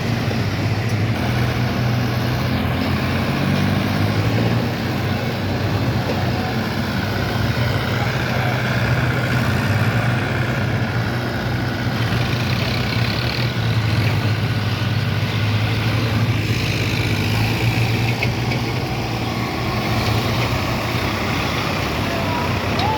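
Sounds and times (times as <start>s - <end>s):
tractor diesel engine humming: 0.0s - 22.9s.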